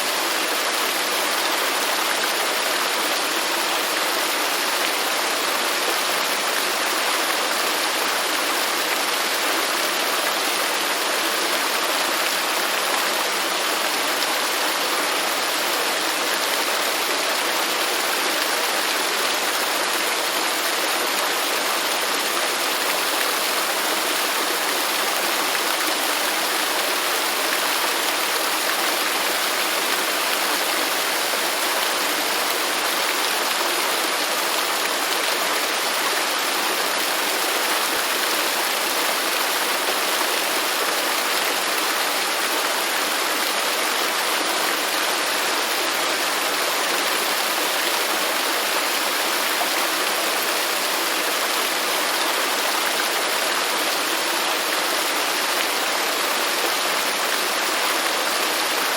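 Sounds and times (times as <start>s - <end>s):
waterfall roaring: 0.0s - 58.9s.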